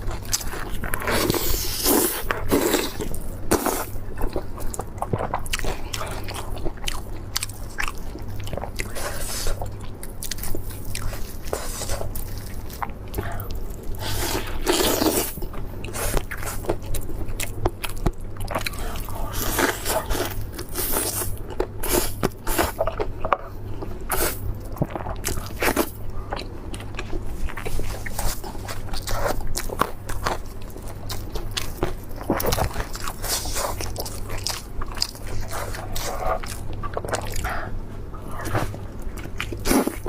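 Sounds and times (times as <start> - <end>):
person chewing crunchy food: 0.0 - 40.0.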